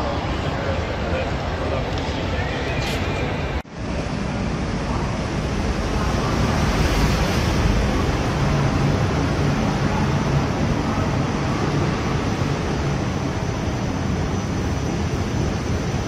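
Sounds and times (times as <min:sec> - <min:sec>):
escalator rumble and hiss: 0:00.0 - 0:16.0.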